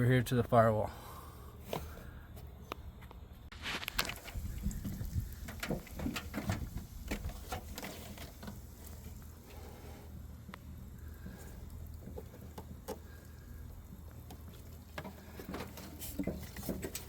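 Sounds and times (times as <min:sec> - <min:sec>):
hands clicking and rustling hoses: 0:03.1 - 0:17.0.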